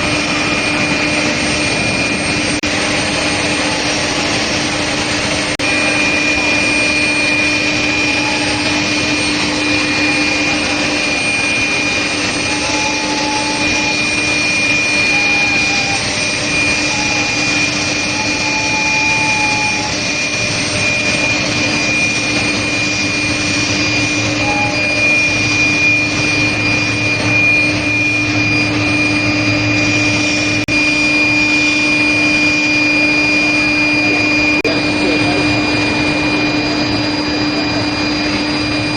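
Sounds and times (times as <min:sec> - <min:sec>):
high-pitched machine whine: 0:00.0 - 0:38.9
machine rushing noise: 0:00.0 - 0:38.9.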